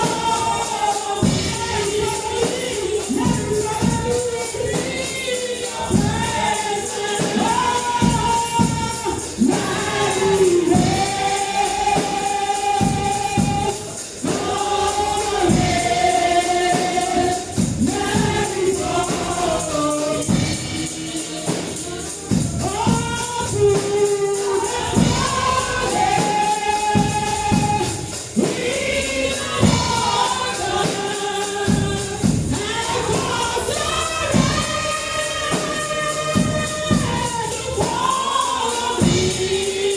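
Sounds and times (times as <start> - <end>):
gospel choir singing: 0.0 - 39.9
tambourine and percussion beat: 0.0 - 39.9.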